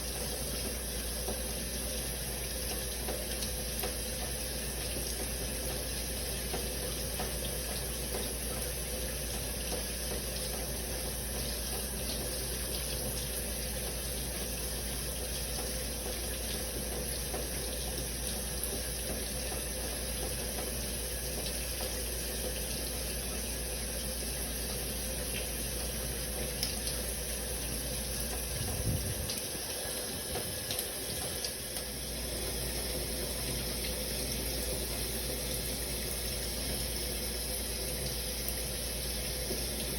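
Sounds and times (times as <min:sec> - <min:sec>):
shower water running: 0:00.0 - 0:39.9.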